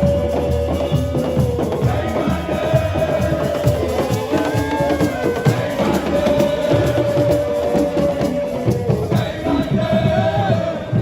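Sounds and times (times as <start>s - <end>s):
crowd singing and chanting: 0.0s - 11.0s
music: 0.0s - 11.0s.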